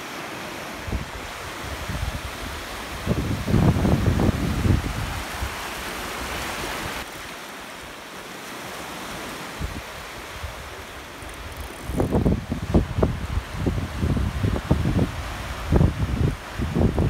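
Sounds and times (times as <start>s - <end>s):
surf washing onto beach: 0.0s - 17.0s.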